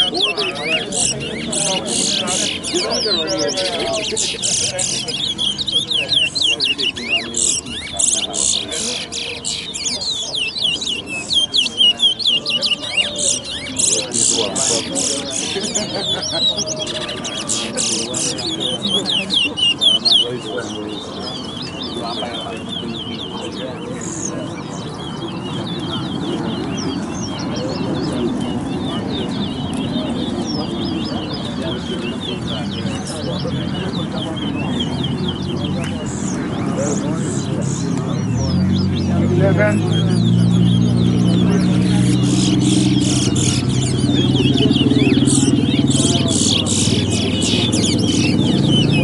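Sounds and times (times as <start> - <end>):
finches chirping and trilling: 0.0 - 49.0
low crowd chatter: 0.0 - 49.0.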